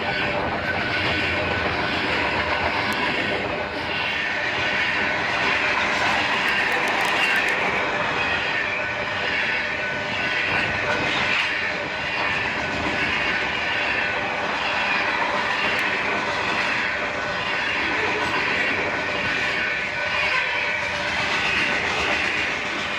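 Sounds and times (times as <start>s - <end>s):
freight train wheels on rails: 0.0s - 22.9s.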